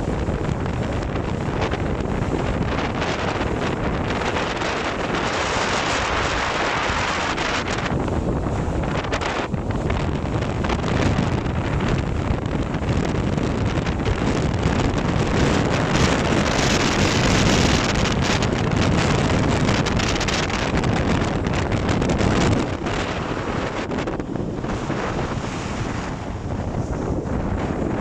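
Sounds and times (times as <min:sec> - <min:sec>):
water splashing along hull: 0:00.0 - 0:28.0
wind buffeting microphone: 0:00.0 - 0:28.0.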